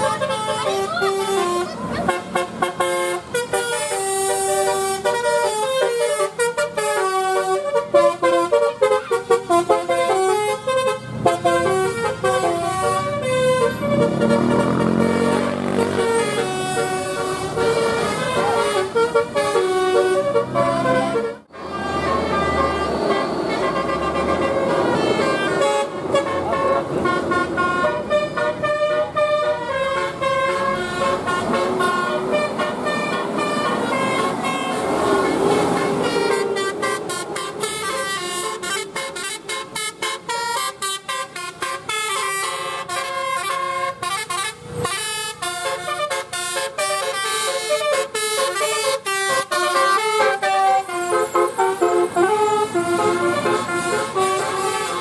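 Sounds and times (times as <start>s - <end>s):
multi-tone bus air horn melody: 0.0s - 55.0s.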